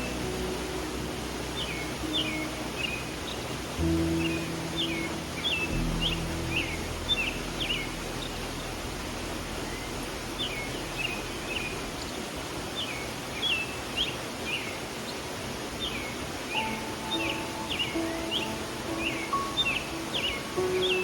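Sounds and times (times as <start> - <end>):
songbird chirping: 0.0 - 21.0
stream flowing: 0.0 - 21.0.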